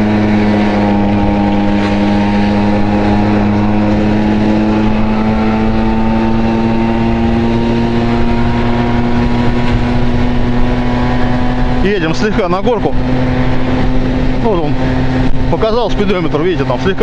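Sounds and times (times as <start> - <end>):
scooter engine cruising: 0.0 - 17.0.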